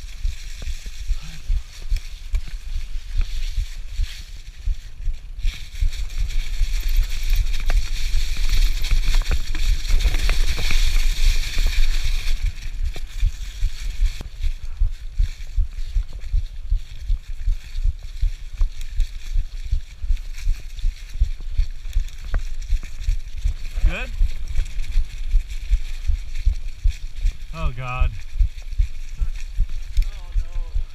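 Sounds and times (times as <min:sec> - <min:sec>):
bike tyres crunching through leaves: 0:00.0 - 0:30.9.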